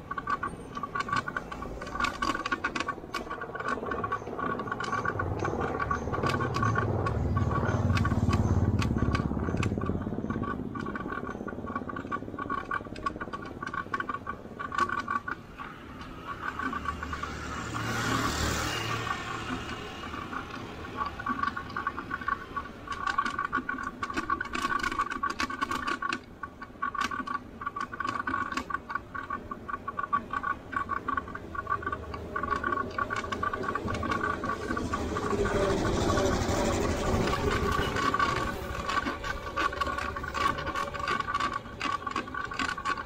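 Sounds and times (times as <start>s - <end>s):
motor vehicle engine: 0.0s - 24.9s, 29.3s - 43.0s
bicycle rattling over road: 0.0s - 43.0s.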